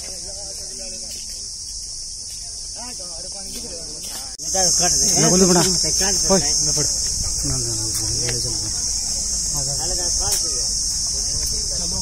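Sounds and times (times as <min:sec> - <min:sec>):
high-pitched insect drone: 0:00.0 - 0:12.0
indistinct voices talking: 0:00.0 - 0:12.0.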